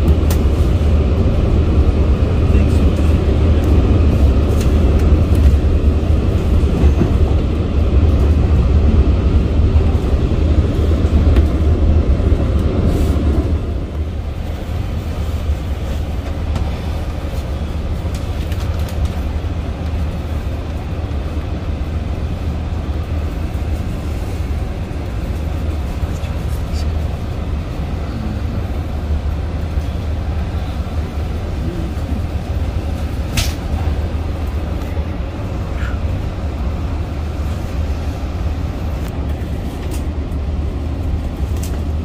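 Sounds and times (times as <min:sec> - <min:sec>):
train rumble from inside car: 0:00.0 - 0:42.0.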